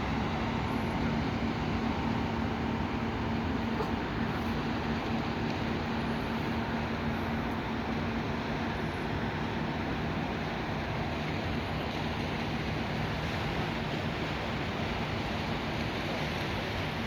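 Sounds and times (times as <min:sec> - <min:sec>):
boat engine humming: 0:00.0 - 0:17.0
rushing water: 0:00.0 - 0:17.0
wind: 0:00.0 - 0:17.0.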